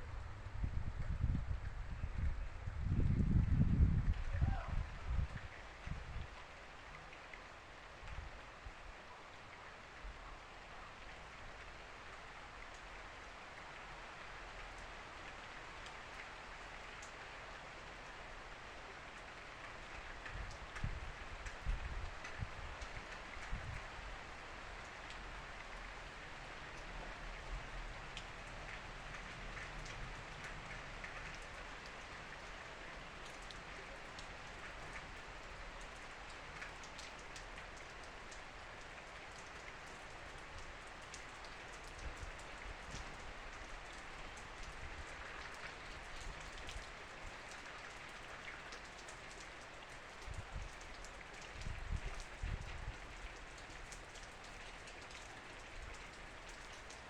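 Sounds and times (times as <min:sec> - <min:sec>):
heavy rain: 0:00.0 - 0:57.0
raindrops ticking on surfaces: 0:00.0 - 0:57.0.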